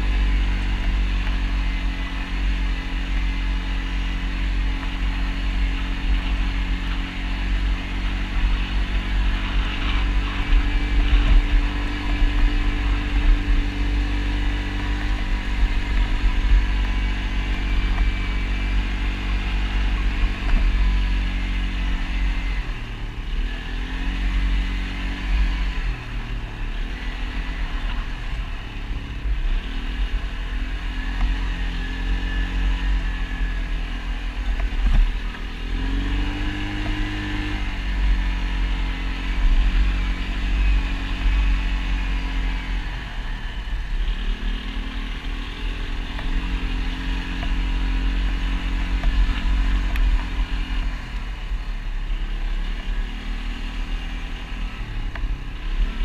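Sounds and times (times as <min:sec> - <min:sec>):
heavy low rumble: 0:00.0 - 0:53.2
atv engine running: 0:00.0 - 0:56.0.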